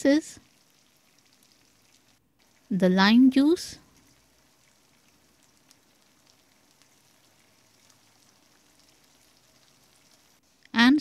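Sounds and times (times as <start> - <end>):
liver frying in oil: 0.0 - 11.0.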